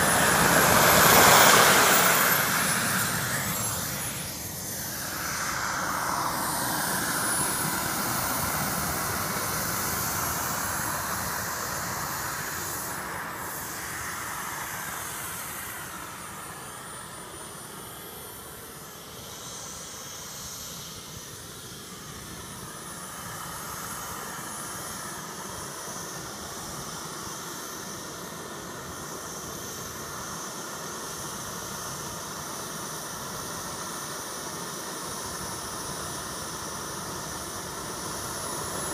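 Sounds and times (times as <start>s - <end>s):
model jet turbine whining: 0.0s - 38.9s.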